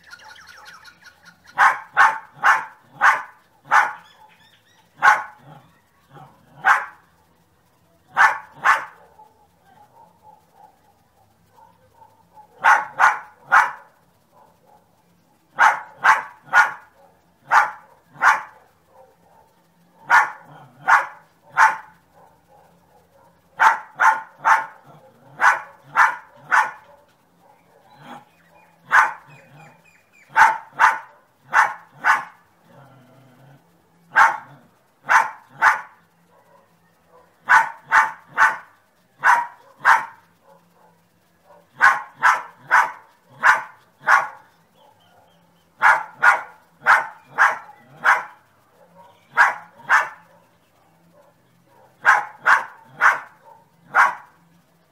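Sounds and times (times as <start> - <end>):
small dog barking: 1.4 - 7.4, 8.0 - 54.9.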